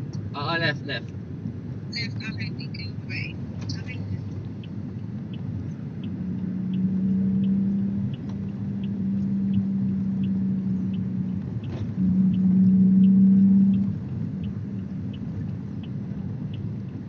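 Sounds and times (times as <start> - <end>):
engine drone: 0.0 - 17.0
road rumble: 0.0 - 17.0
faint regular ticking: 1.0 - 17.0.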